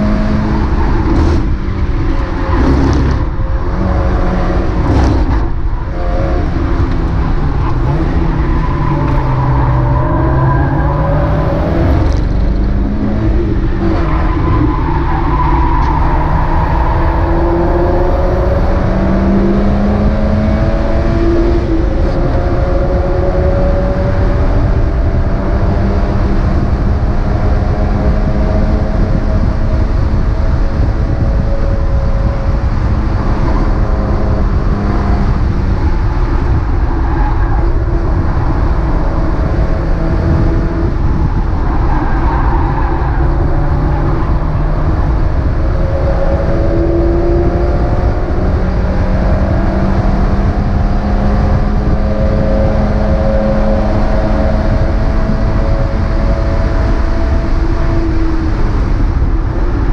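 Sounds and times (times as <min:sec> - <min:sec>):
heavy wind: 0:00.0 - 0:59.9
race car engine running hard: 0:00.0 - 0:59.9
road rumble: 0:00.0 - 0:59.9.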